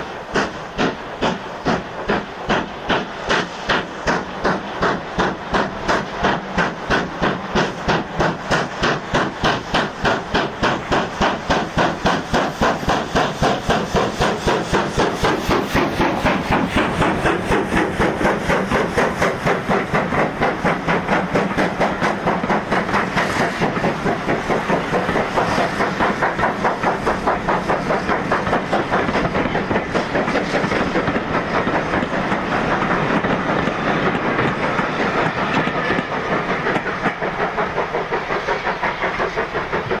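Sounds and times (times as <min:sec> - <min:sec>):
steam hissing: 0:00.0 - 0:40.0
steam locomotive exhaust beats: 0:00.0 - 0:40.0.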